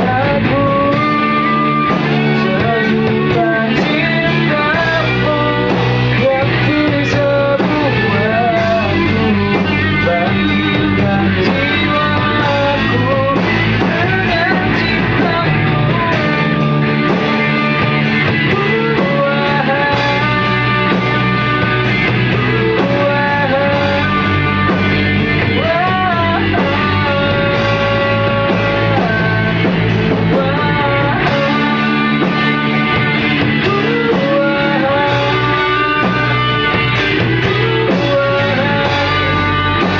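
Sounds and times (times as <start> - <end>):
bass line: 0.0 - 39.9
electric guitar melody: 0.0 - 39.9.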